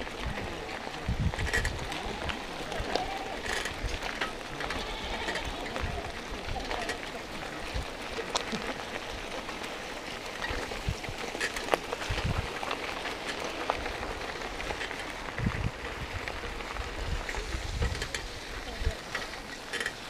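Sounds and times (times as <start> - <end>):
low thumps of wind buffeting: 0.0 - 6.6, 8.8 - 19.0
bike riding hiss with clicks: 0.0 - 20.0.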